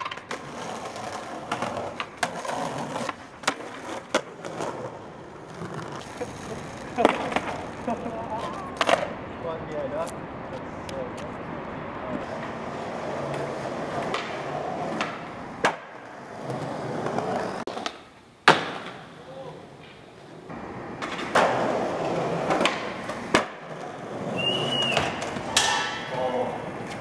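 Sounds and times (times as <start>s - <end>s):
skateboard clacking down: 0.0s - 9.2s, 12.4s - 19.1s, 20.8s - 27.0s
skateboard wheels rolling on concrete: 0.0s - 27.0s.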